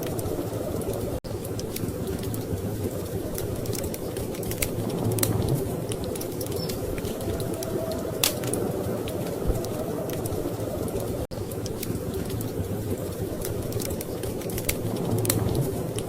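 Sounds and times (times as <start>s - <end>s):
fire popping: 0.0s - 16.0s
low rumble of storm wind: 0.0s - 16.0s
wood fire crackling: 0.0s - 16.0s.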